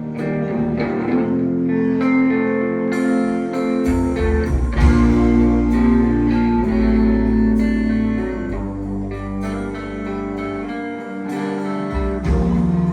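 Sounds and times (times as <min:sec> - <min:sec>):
bass guitar: 0:00.0 - 0:12.9
guitar: 0:00.0 - 0:12.9.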